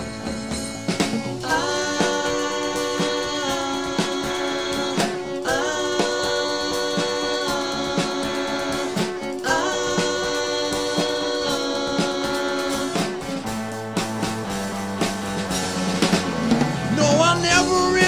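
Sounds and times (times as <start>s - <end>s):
bass line: 0.0s - 18.0s
drum beat: 0.0s - 18.0s
guitar chords: 0.0s - 18.0s
wavering lead melody: 0.0s - 18.0s.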